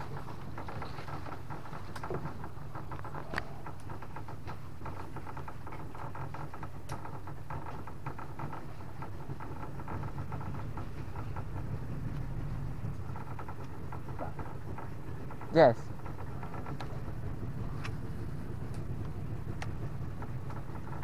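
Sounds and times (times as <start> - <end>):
boat engine humming: 0.0 - 21.0
faint clicks: 0.0 - 21.0.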